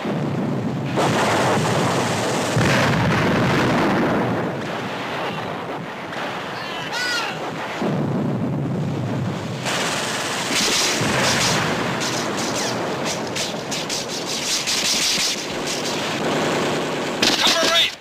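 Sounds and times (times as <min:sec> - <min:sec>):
shell explosions: 0:00.0 - 0:18.0
rapid gunfire: 0:00.7 - 0:08.0, 0:09.4 - 0:18.0.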